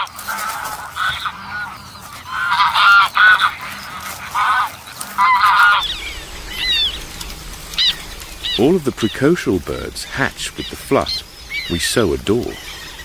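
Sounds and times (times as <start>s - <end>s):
waterfowl honking: 0.0s - 13.0s.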